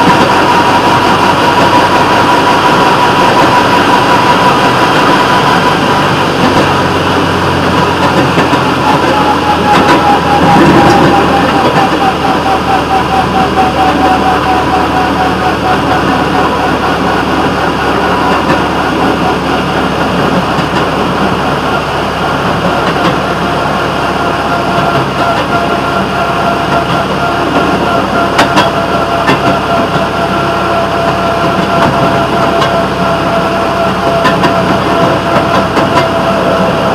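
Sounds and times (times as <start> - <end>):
railroad motorcar engine: 0.0 - 36.9
thin steady whine: 0.0 - 36.9.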